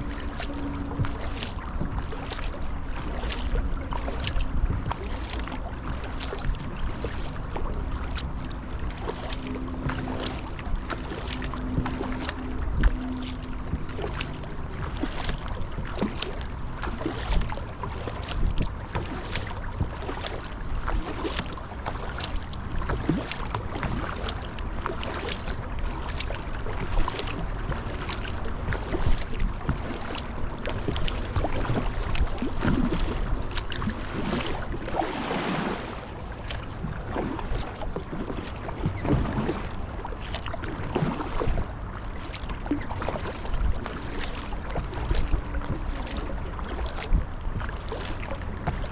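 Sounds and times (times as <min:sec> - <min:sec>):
paddle splashes and drips: 0:00.0 - 0:48.9
wind rumble on microphone: 0:00.0 - 0:48.9.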